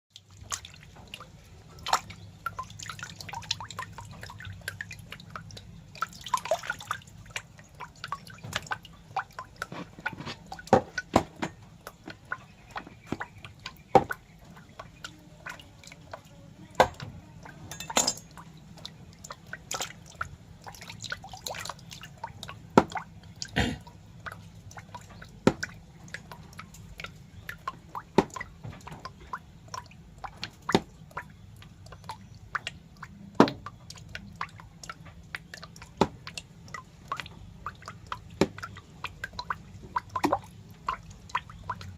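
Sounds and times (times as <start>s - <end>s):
low steady hum: 0.1s - 41.9s
wet clicks and drips: 0.1s - 41.9s.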